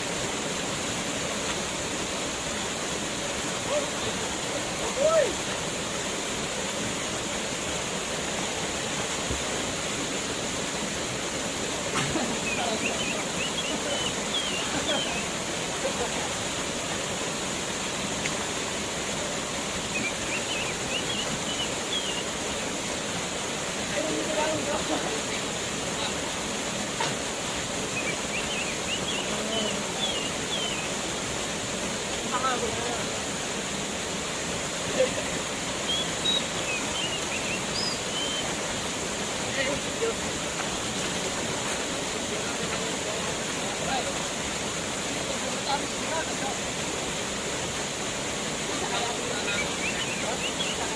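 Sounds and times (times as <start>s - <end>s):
waterfall rushing water: 0.0s - 50.9s.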